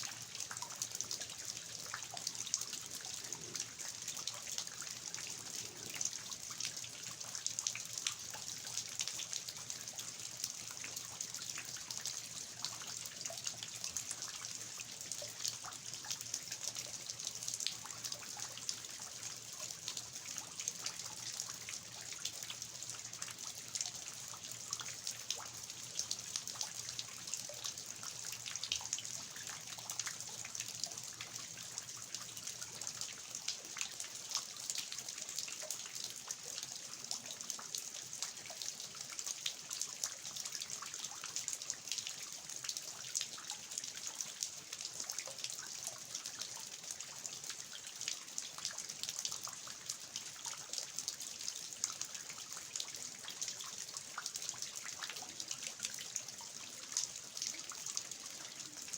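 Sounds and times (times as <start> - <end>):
steady rain patter: 0.0 - 58.9
water dripping from eaves: 0.0 - 58.9.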